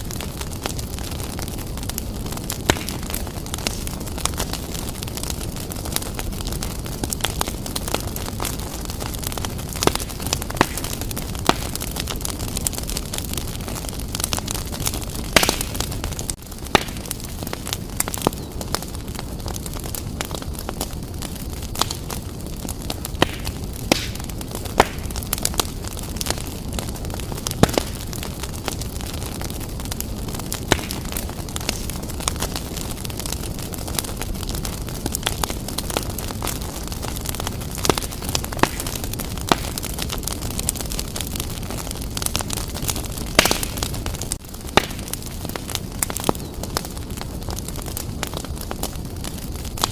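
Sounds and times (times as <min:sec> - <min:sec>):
burning logs crackling and popping: 0:00.0 - 0:49.9
fire flames rumbling: 0:00.0 - 0:49.9.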